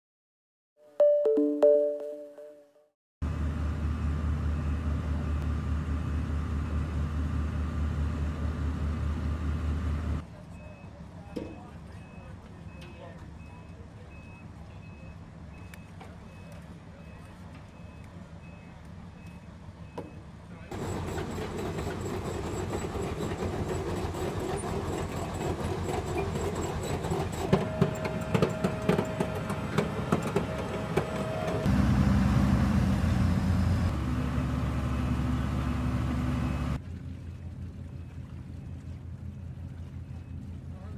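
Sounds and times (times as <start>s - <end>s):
faint engine whine: 3.2s - 23.8s, 27.4s - 40.9s
heavy vehicle engine rumbling: 3.2s - 40.9s.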